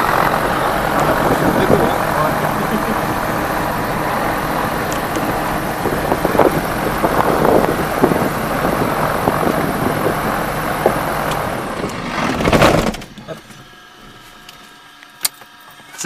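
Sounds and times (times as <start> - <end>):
light aircraft engine running: 0.0 - 16.0.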